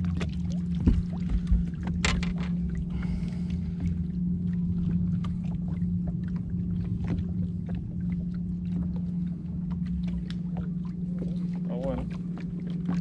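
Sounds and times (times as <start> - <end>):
boat motor hum: 0.0 - 13.0.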